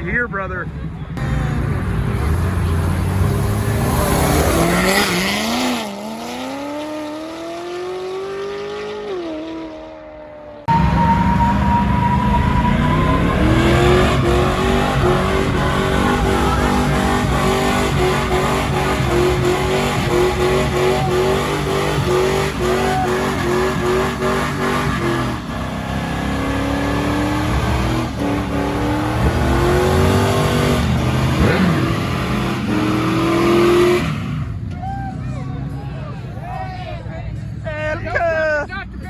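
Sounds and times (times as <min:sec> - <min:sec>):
car engine revving: 0:00.7 - 0:36.2.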